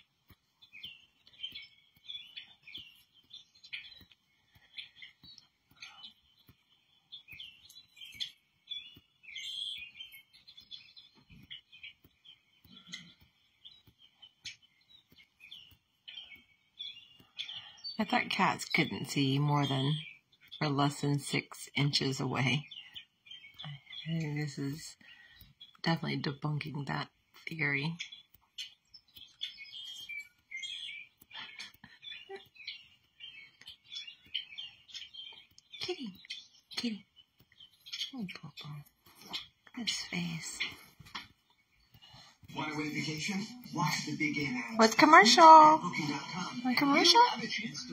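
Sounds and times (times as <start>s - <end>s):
bird chirps through tv speakers: 0.6s - 47.9s.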